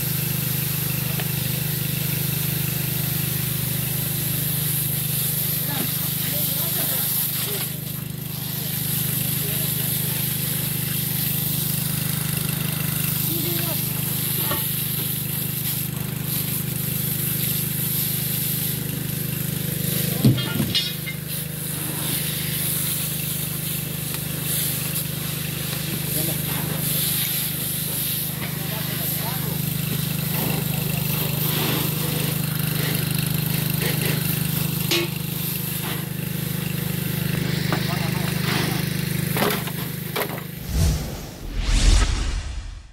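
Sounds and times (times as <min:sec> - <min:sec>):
water hissing from fire hose: 0:00.0 - 0:39.3.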